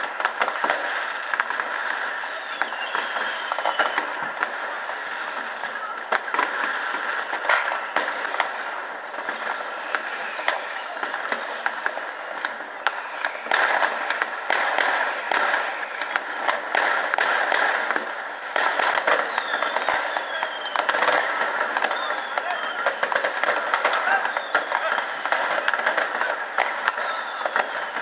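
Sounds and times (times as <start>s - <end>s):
fireworks bangs and crackles: 0.0s - 28.0s
fireworks falling whistles: 0.0s - 28.0s.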